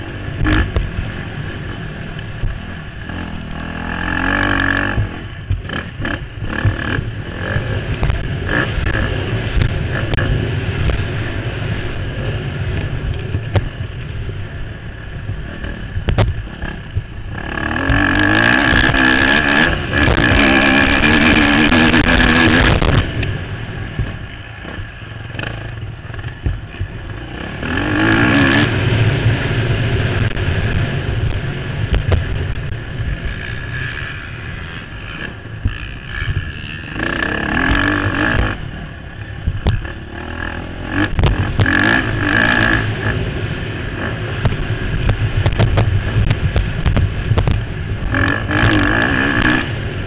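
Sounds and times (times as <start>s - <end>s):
dirt bike engine revving: 0.0s - 50.0s
wind rumble on microphone: 0.0s - 50.0s.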